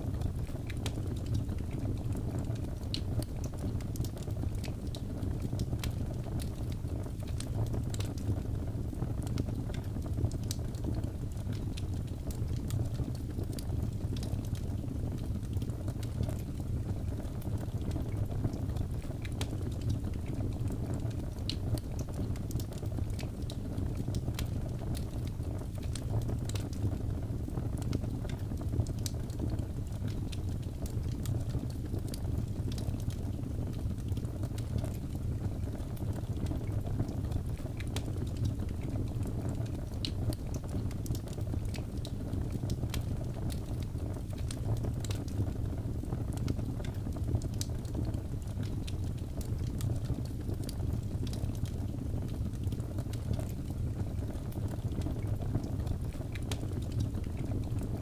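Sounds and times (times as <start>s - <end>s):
fire crackles and pops: 0.0s - 58.0s
wood fire burning: 0.0s - 58.0s.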